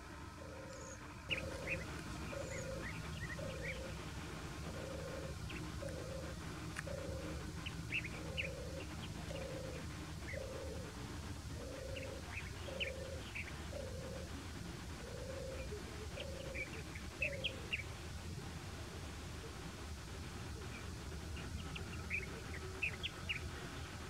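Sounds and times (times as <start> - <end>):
dove purring song: 0.0 - 24.0
small birds chirping: 0.4 - 14.5, 15.1 - 18.0, 20.4 - 24.0.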